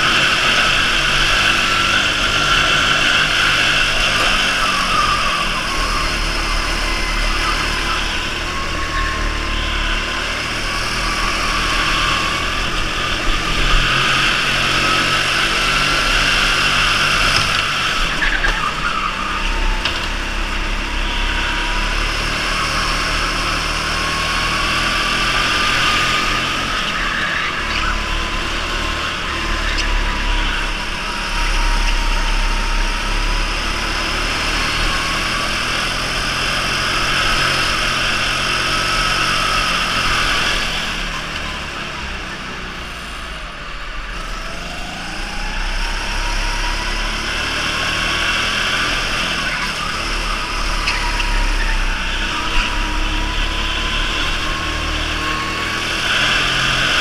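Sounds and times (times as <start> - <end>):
go-kart motor whining: 0.0 - 57.0
rush of noise: 0.0 - 57.0.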